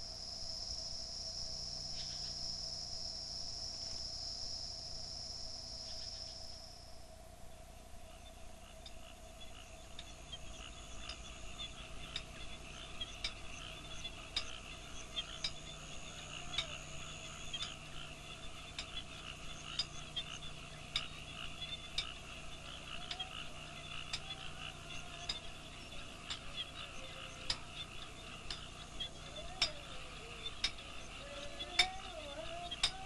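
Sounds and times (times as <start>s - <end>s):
frogs trilling: 0.0s - 33.0s
frog clicking calls: 0.8s - 3.1s, 8.0s - 33.0s.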